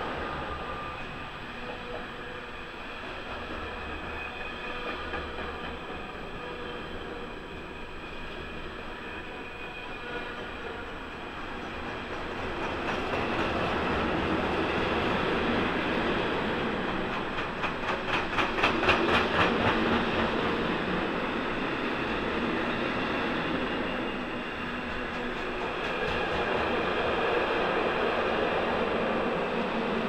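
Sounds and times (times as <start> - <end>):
freight train rolling past: 0.0 - 30.0.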